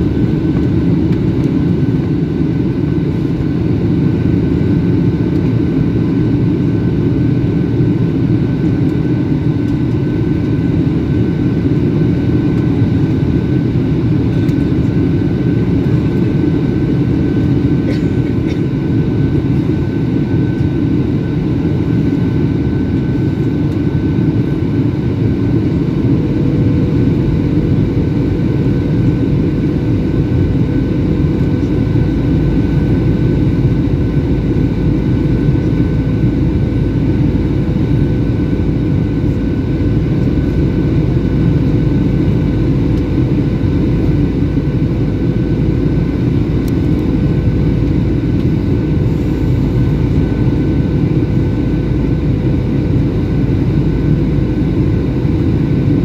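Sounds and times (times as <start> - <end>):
airplane cabin engine rush: 0.0 - 56.0
faint steady whine: 0.0 - 56.0.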